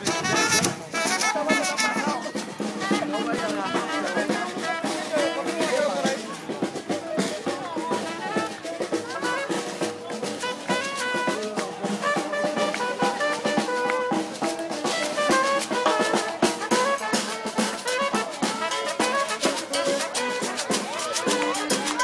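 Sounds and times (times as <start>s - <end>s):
brass horns playing: 0.0s - 5.6s, 8.2s - 22.0s
drums and percussion: 0.0s - 22.0s.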